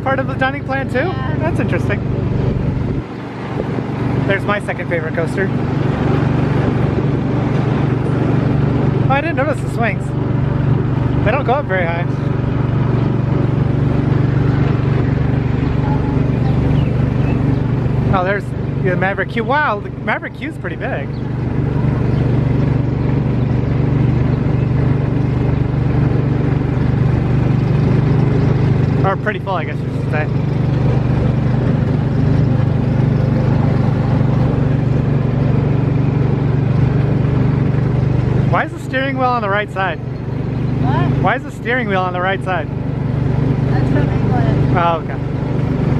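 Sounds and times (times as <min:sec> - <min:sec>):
small gasoline engine running: 0:00.0 - 0:45.9.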